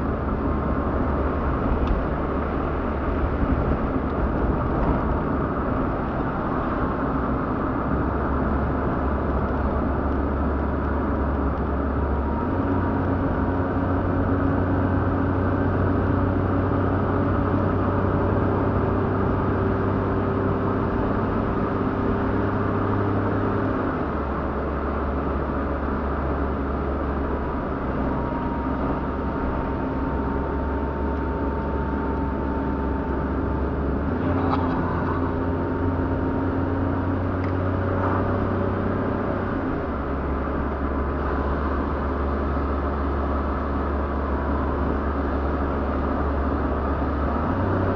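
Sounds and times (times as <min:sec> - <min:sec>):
car engine humming: 0:00.0 - 0:47.9
road noise inside car: 0:00.0 - 0:47.9.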